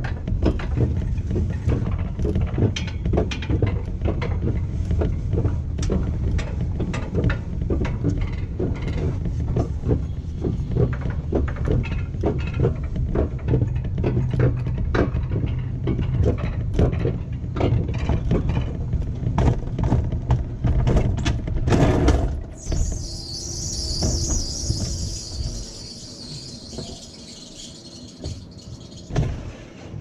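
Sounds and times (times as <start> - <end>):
wheels clicking over track: 0.0 - 29.7
coaster sled rumbling on rail: 0.0 - 30.0.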